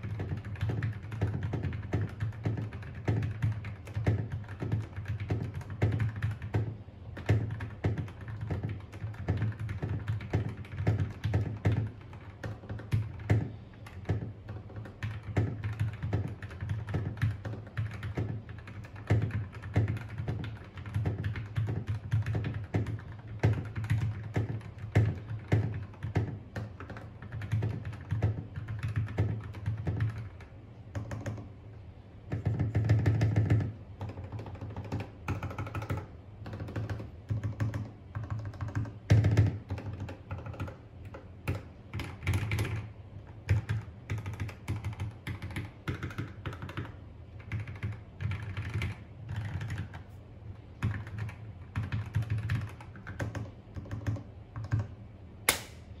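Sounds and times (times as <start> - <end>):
mechanical keyboard typing: 0.0 - 31.6, 32.3 - 55.7.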